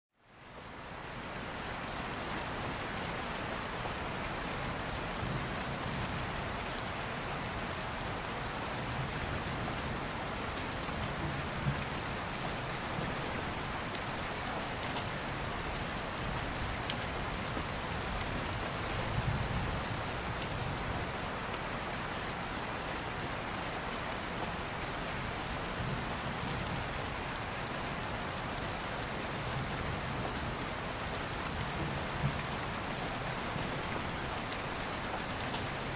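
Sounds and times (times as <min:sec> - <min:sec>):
heavy rain: 0:00.2 - 0:35.9.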